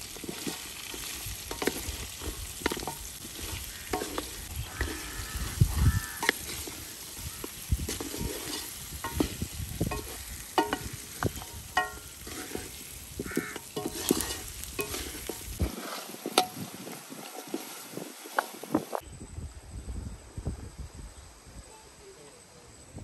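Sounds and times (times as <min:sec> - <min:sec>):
spoon scraping and knocking pan: 0:00.0 - 0:18.6
meat sizzling in ghee: 0:00.0 - 0:19.0.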